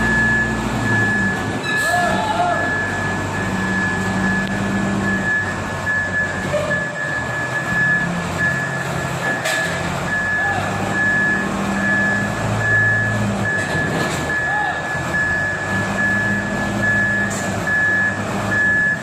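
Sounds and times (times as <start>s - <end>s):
reversing alarm beeping: 0.0s - 19.0s
wheel loader engine running: 0.0s - 19.0s.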